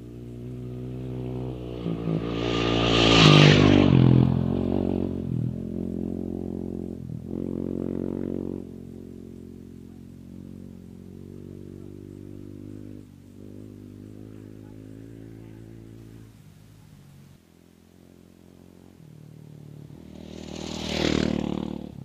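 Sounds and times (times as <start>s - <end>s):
race car engine moving away: 0.0s - 22.0s.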